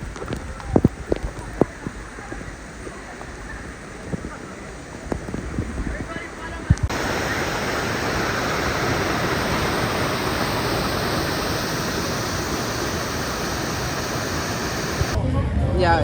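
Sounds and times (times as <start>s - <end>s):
falling water rushing: 0.0s - 15.2s.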